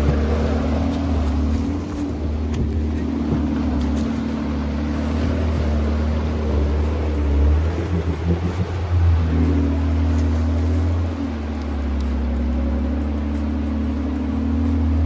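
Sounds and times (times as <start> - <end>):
river water rushing: 0.0 - 15.0
truck engine running: 0.0 - 15.0.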